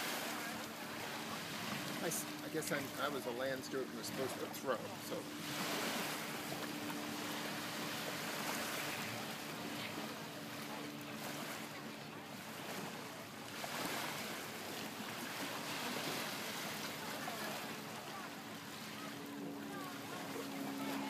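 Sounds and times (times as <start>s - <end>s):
waves lapping on sandy shore: 0.0s - 21.0s.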